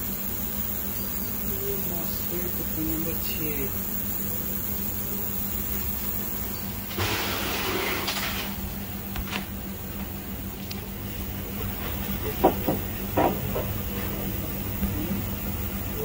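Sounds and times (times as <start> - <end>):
hiss: 0.0 - 8.8, 11.1 - 16.0
low electrical hum: 0.0 - 16.0.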